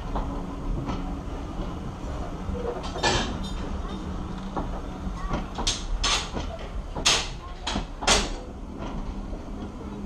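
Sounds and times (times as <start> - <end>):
train wheels clacking over rail joints: 0.0 - 9.8
low steady rumble of train: 0.0 - 10.0.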